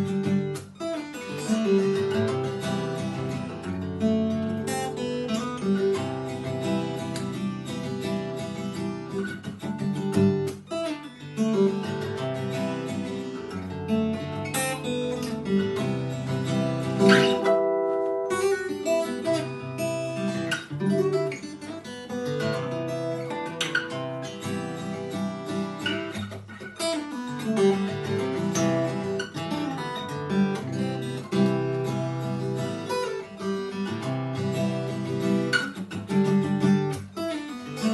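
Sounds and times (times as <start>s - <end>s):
fingerpicked guitar chords: 0.0s - 37.9s.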